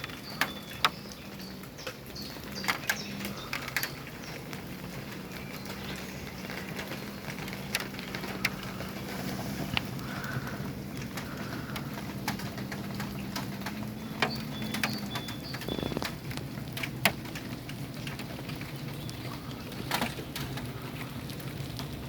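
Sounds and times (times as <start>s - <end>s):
rainwater dripping: 0.0s - 22.0s.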